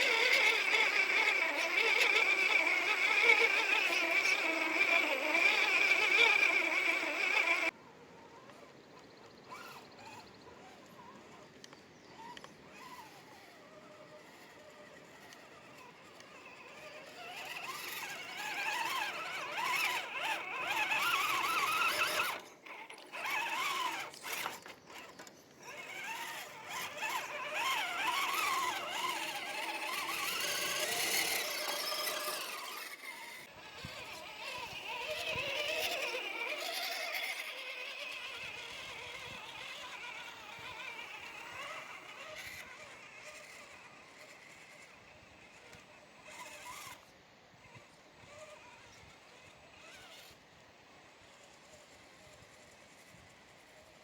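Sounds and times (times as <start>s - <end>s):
electric motor and gears whining: 0.0s - 54.0s.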